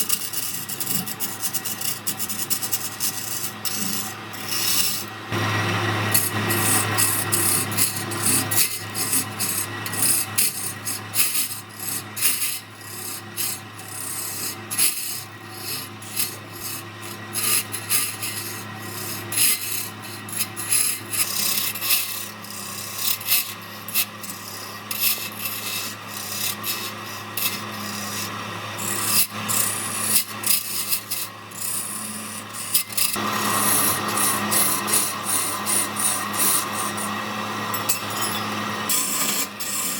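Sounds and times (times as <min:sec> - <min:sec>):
tool scraping spinning wood: 0:00.0 - 0:39.9
wood lathe humming: 0:00.0 - 0:39.9.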